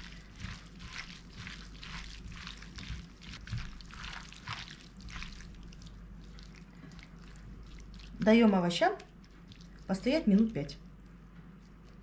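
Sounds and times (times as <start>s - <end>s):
wet squishing of vegetables: 0.0s - 12.0s.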